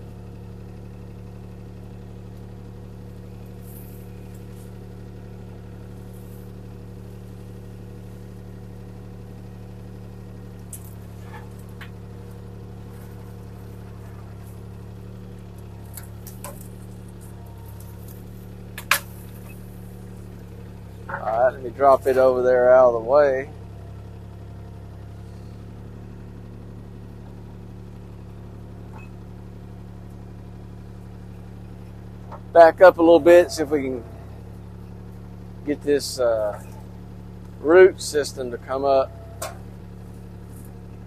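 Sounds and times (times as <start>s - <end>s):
excavator diesel engine running: 0.0s - 41.0s.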